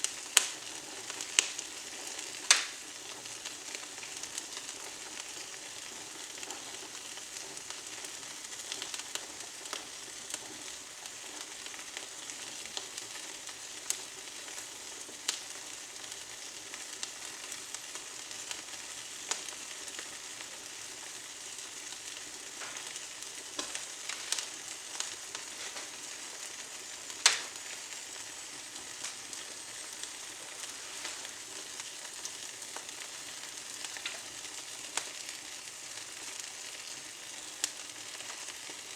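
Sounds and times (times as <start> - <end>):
twigs crackling in a fireplace: 0.0 - 38.9.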